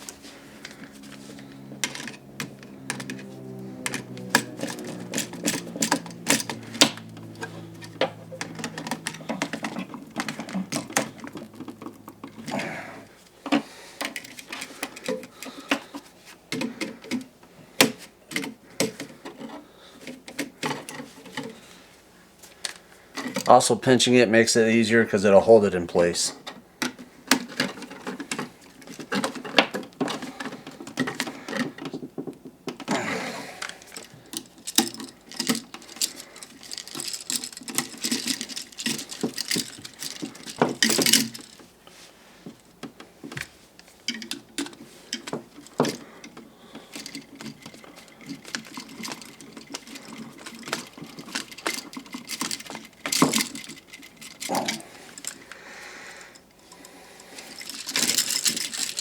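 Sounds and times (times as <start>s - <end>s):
hand tools clicking and rattling: 0.0s - 59.0s.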